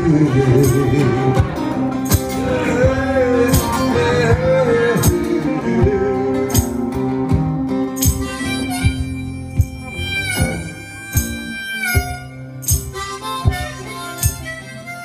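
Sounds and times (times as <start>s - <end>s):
blues harmonica: 0.0s - 15.0s
strummed acoustic guitar: 0.0s - 15.0s
sharp knock keeping beat: 0.5s - 14.7s.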